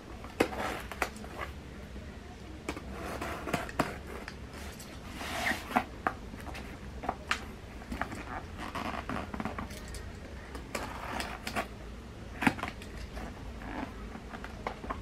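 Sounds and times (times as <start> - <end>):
rustling and scratching cardboard: 0.2 - 1.6, 2.6 - 9.9, 10.6 - 15.0.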